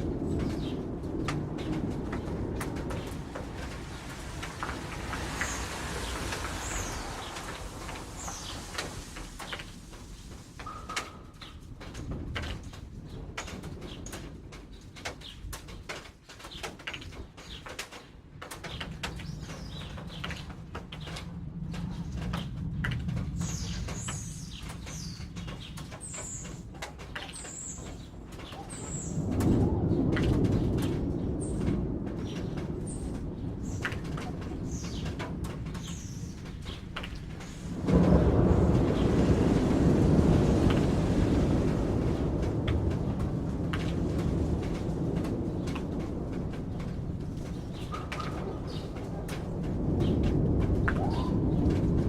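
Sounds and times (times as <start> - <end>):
distant thunder rumble: 0.0 - 52.0
rain dripping: 0.0 - 52.0.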